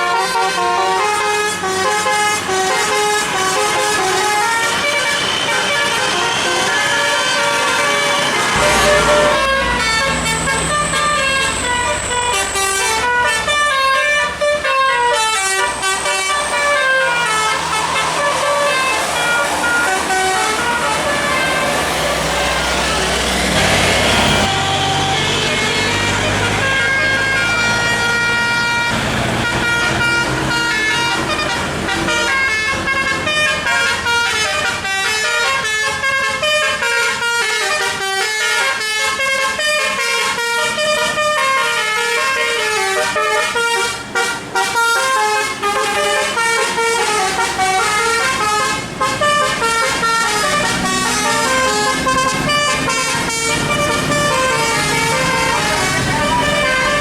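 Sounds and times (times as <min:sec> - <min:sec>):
musical air horn melody: 0:00.0 - 0:57.0.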